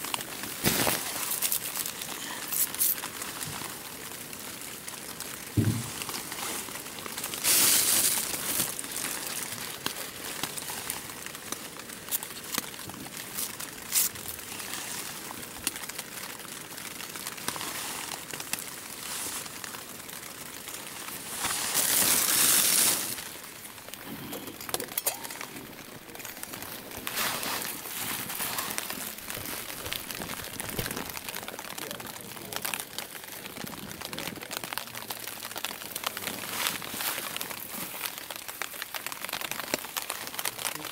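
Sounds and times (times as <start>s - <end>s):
plastic packet crinkling: 0.0s - 40.9s.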